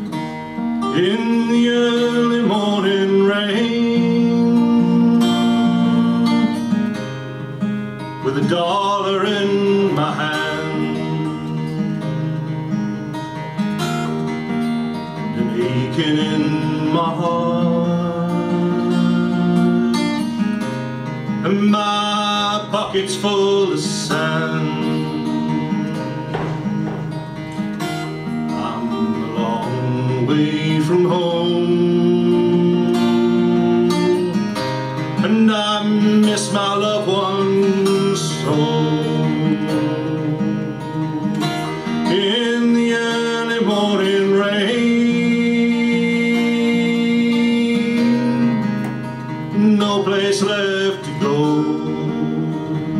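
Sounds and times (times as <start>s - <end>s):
acoustic guitar folk song: 0.0s - 52.9s.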